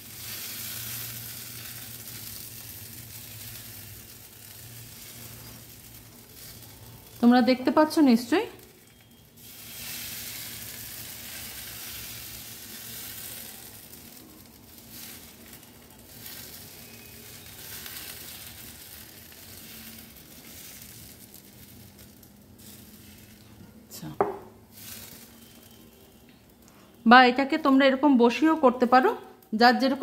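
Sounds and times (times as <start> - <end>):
batter sizzling in frying pan: 0.0 - 30.0.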